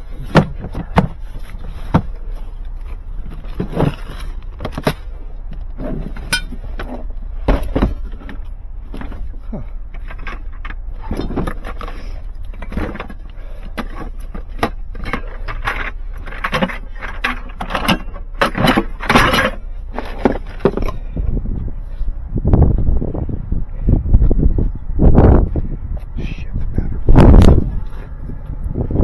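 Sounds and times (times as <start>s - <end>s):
cables and gear clicking and rustling: 0.0s - 29.0s
steady low hum: 0.0s - 29.0s.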